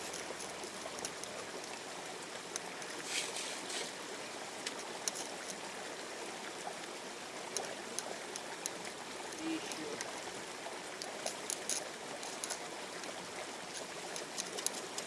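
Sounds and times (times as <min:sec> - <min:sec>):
flowing river water: 0:00.0 - 0:15.0.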